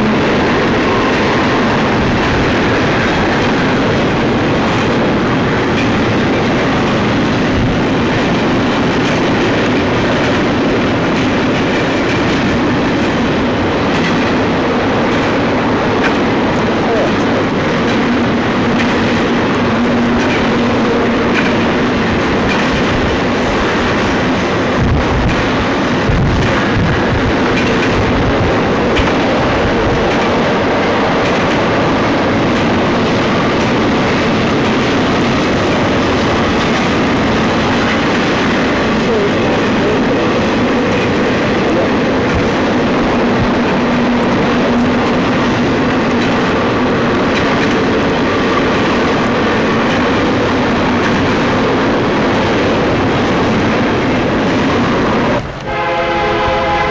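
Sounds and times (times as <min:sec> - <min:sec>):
train wheels rushing on rails: 0:00.0 - 0:56.9.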